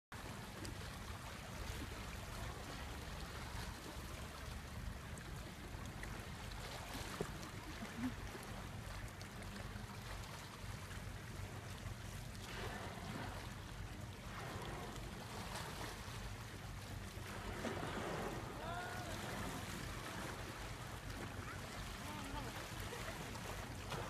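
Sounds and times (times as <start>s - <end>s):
low steady hum: 0.2s - 24.0s
waves lapping against rocks: 0.2s - 24.0s.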